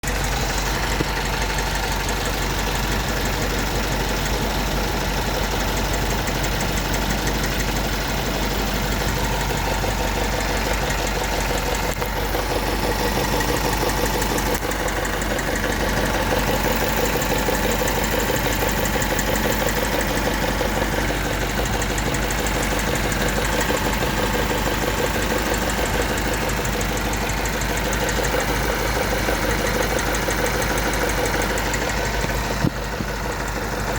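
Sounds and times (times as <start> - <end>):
engine idling: 0.0 - 33.9
fast ticking noise: 0.0 - 33.9.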